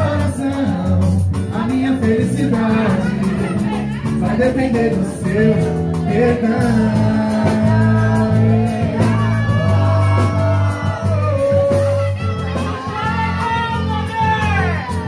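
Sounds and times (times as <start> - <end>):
live band playing: 0.0 - 15.0
man singing: 0.0 - 15.0.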